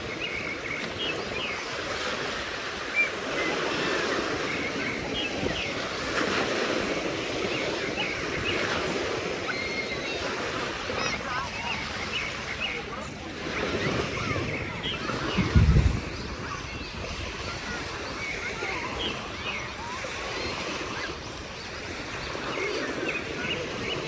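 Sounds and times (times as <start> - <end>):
waves washing on sandy beach: 0.0 - 24.0.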